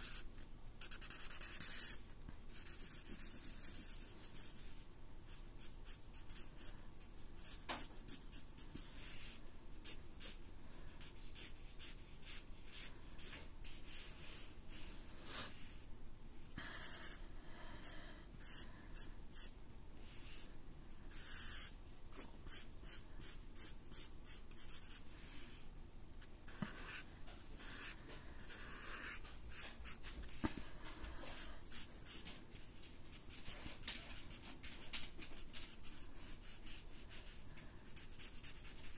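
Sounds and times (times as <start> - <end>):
marker scratching on paper: 0.0 - 6.7, 7.4 - 10.4, 11.0 - 15.8, 18.4 - 20.5, 21.1 - 25.6, 26.5 - 34.8, 35.4 - 38.9.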